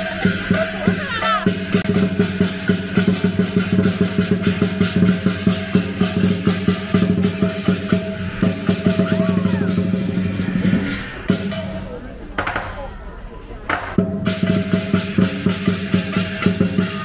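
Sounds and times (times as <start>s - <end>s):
crashing cymbals: 0.0s - 12.1s, 14.0s - 17.0s
large drum beaten fast: 0.0s - 13.0s, 13.7s - 17.0s.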